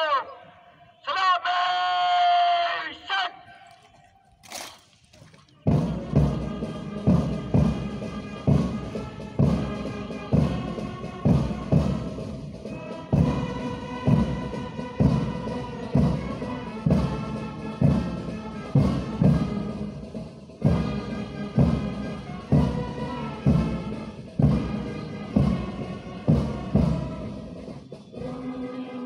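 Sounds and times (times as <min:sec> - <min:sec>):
orchestral music with brass: 0:04.4 - 0:29.0.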